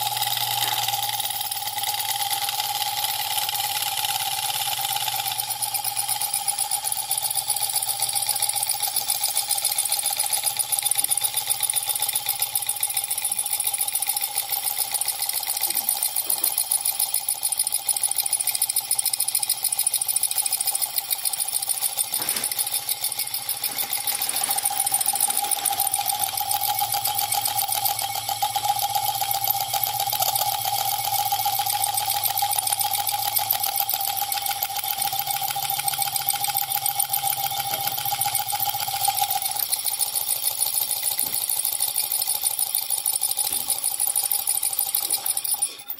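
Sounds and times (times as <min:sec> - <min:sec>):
electric motor buzzing: 0:00.0 - 0:45.9.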